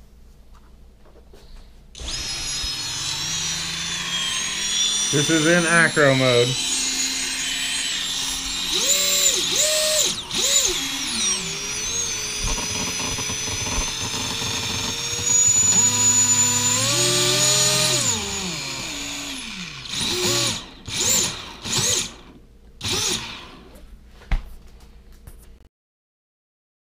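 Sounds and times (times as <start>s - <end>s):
quadcopter motors whining: 2.0s - 23.8s.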